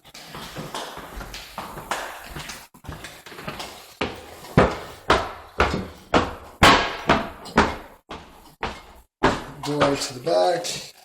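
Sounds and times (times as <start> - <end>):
footsteps on a hard floor: 0.0 - 10.4.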